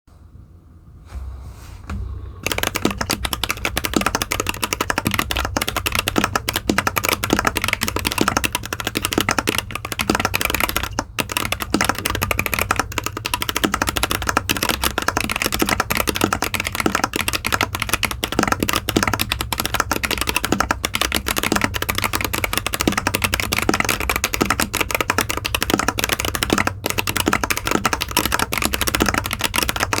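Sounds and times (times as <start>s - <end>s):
steady low hum: 0.1s - 30.0s
fast mechanical keyboard typing: 2.4s - 30.0s.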